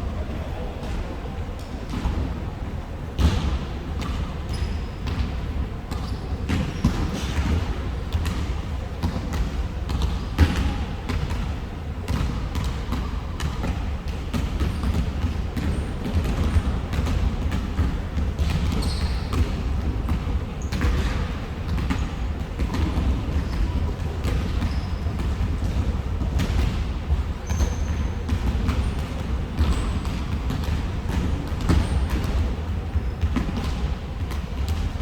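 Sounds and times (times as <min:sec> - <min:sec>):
basketballs bouncing on gym floor: 0:03.2 - 0:35.0.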